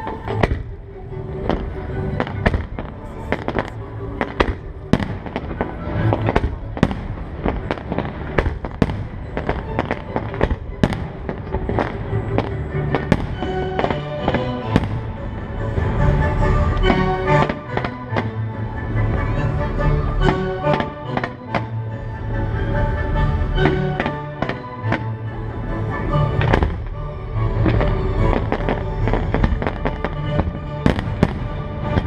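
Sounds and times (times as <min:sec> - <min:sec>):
fireworks bursting with sharp bangs: 0:00.0 - 0:18.6, 0:20.0 - 0:21.8, 0:23.4 - 0:25.2, 0:26.0 - 0:32.0
accompanying music: 0:00.0 - 0:32.0.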